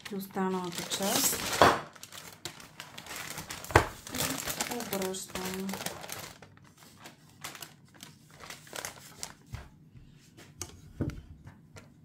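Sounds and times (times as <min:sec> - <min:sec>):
baking parchment crinkling: 0:00.0 - 0:09.8.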